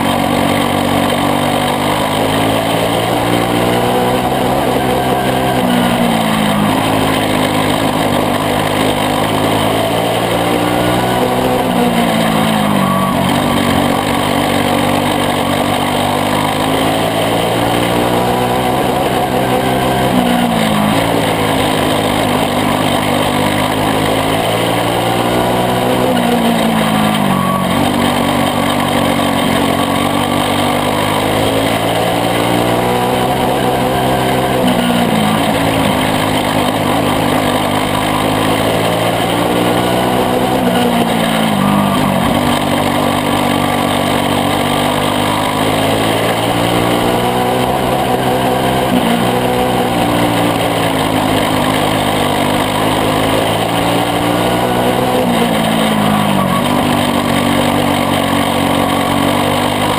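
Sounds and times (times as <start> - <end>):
kart engine running hard: 0.0 - 59.9.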